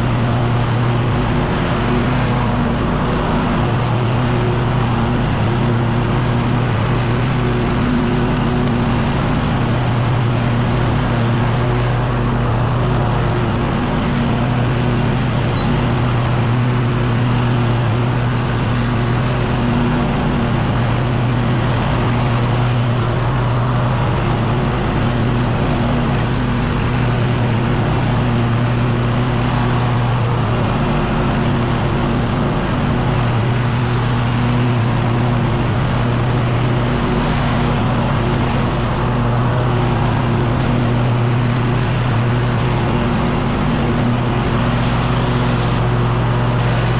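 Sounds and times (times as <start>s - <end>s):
leaf blower engine running: 0.0s - 46.9s.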